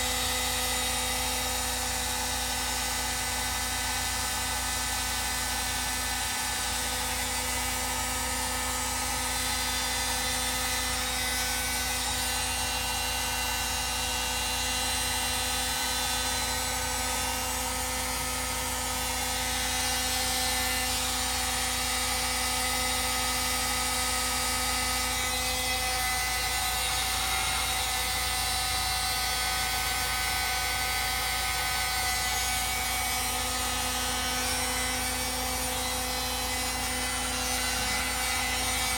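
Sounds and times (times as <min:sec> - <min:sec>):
electric motor humming and whining: 0:00.0 - 0:38.9.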